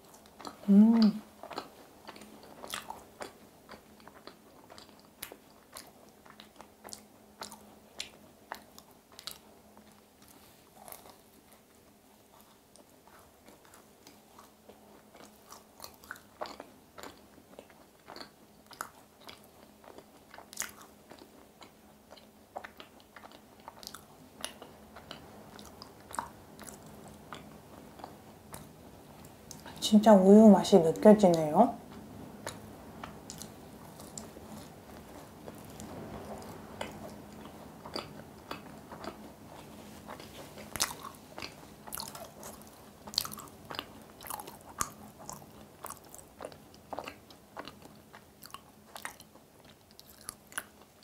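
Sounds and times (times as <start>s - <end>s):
person chewing a macaron: 0.0s - 29.8s, 31.8s - 51.0s.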